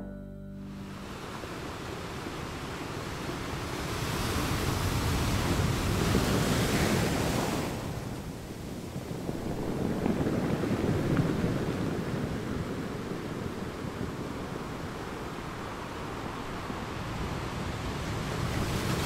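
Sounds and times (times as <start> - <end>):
ocean waves rushing: 1.0 - 19.0.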